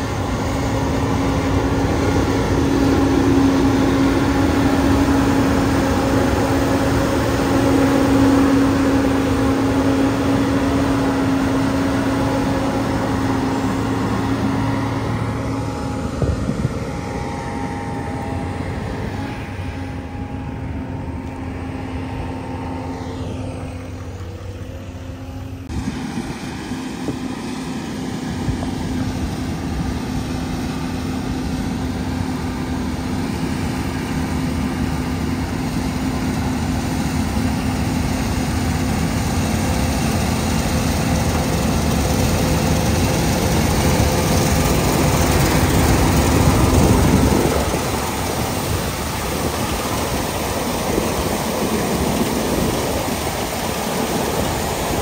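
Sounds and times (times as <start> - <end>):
combine harvester running: 0.0 - 55.0
vehicle engine hum: 0.0 - 55.0.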